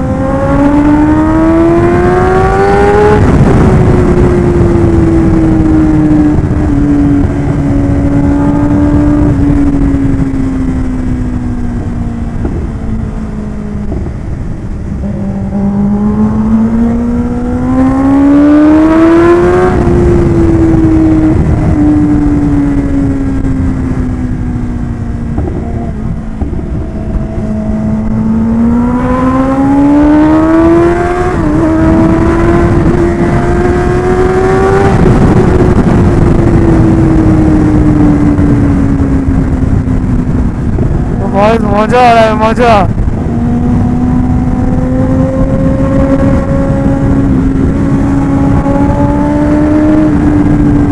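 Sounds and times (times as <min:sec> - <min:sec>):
motorcycle engine revving: 0:00.0 - 0:50.9
wind rushing over microphone: 0:00.0 - 0:50.9.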